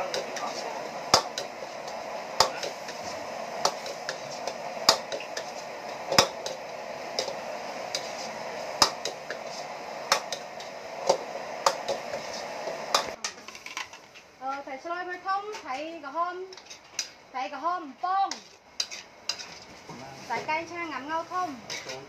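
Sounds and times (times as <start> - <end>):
beef sizzling: 0.0 - 14.2, 18.2 - 22.0.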